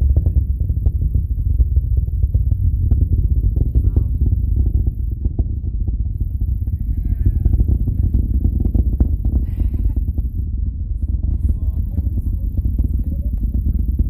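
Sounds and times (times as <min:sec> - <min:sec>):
distant rocket roar: 0:00.0 - 0:14.0.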